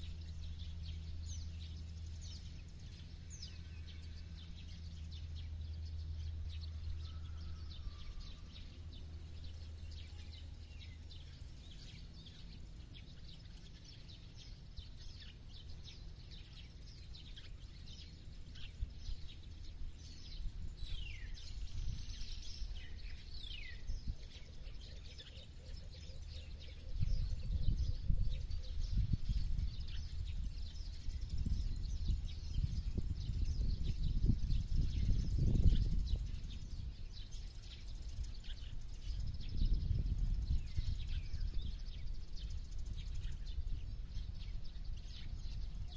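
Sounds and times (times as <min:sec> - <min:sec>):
low steady hum: 0:00.0 - 0:45.9
wild birds chirping: 0:00.0 - 0:45.9.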